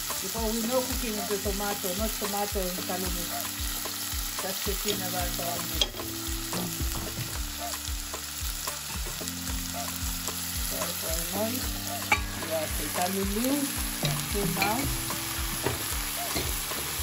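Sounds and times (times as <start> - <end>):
music beat with bass: 0.0 - 17.0
vegetables sizzling in oil: 0.0 - 17.0.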